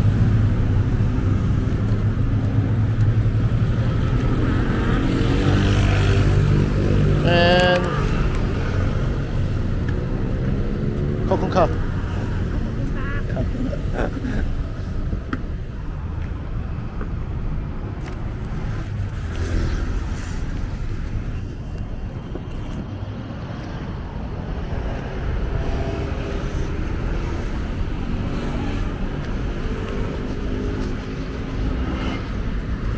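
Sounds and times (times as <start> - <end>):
road traffic rumble: 0.0 - 32.9.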